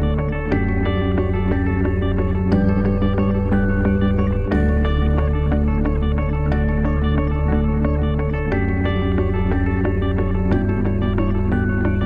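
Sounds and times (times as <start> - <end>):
sustained chords over low bass: 0.0 - 12.0.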